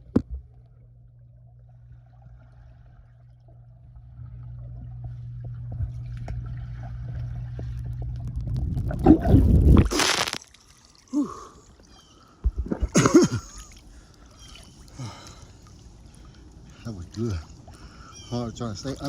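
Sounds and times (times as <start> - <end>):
pool water splashing and gurgling: 0.0 - 19.0
steady low hum: 0.0 - 19.0.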